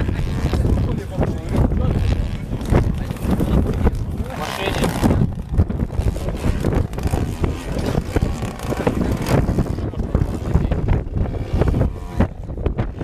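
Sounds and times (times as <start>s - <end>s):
model plane engine and propeller: 0.0s - 13.0s
wind buffeting on microphone: 0.0s - 13.0s.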